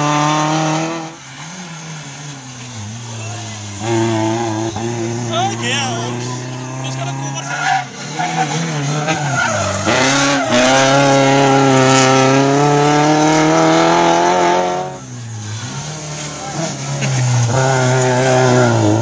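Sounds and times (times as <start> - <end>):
race car engines speeding past: 0.0 - 19.0.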